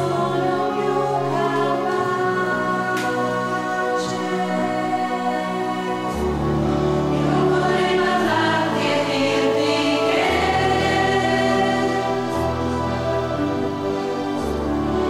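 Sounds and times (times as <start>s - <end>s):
church choir singing: 0.0s - 15.0s.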